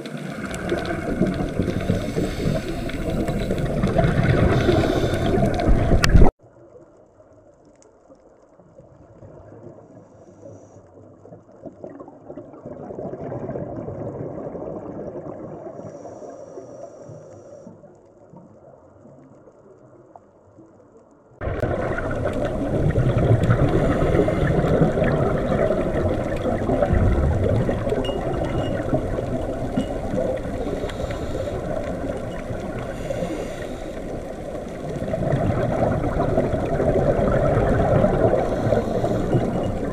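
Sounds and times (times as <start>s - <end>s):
underwater water noise: 0.0s - 39.9s.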